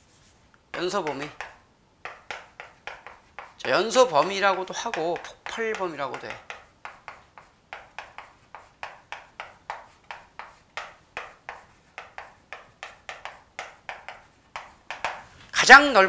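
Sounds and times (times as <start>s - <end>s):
chalk tapping and scratching: 0.0s - 16.0s.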